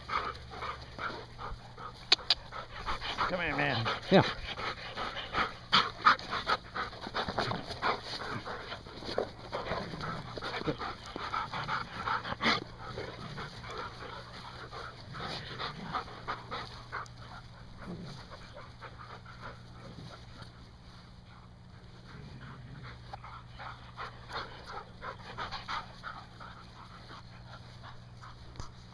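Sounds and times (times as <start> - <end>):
dogs panting: 0.0 - 28.9.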